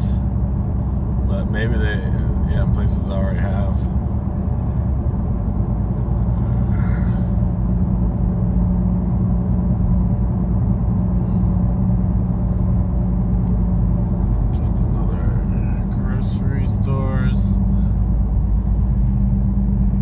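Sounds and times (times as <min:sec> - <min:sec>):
road and engine rumble in car: 0:00.0 - 0:20.0
steady drone: 0:00.0 - 0:20.0.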